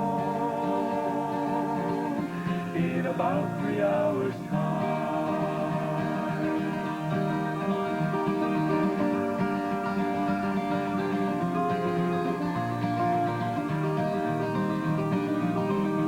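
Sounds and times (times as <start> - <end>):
acoustic guitar strumming and plucking: 0.0 - 16.0.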